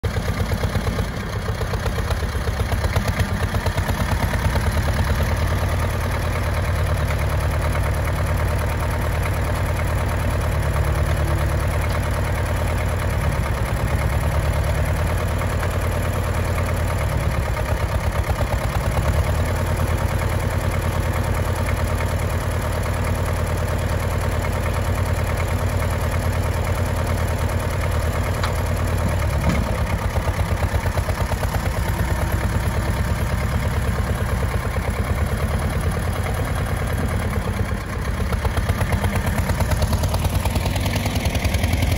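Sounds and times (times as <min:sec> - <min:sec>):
tractor diesel engine idling: 0:00.0 - 0:41.9.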